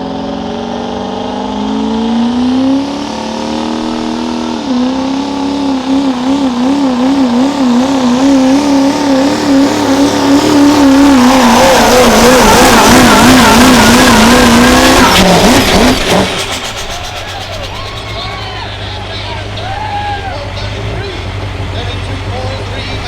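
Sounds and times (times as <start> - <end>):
diesel truck engine revving hard: 0.0 - 23.0.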